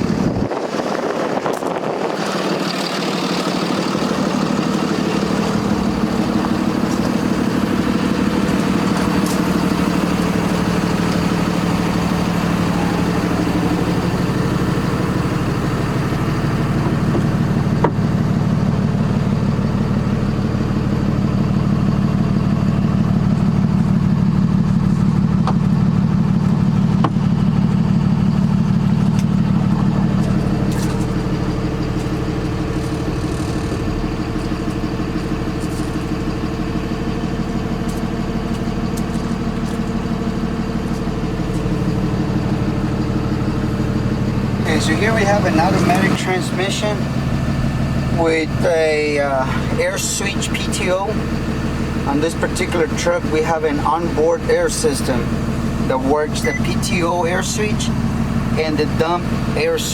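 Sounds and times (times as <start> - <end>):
diesel truck idling: 0.0 - 59.9.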